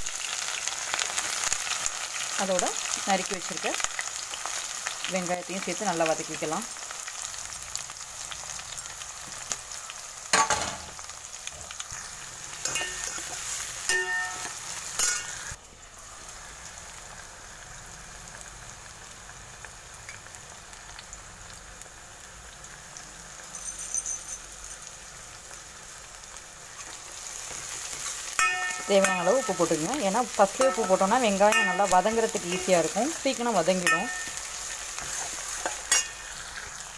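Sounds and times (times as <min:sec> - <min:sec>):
food sizzling in hot oil: 0:00.0 - 0:36.9.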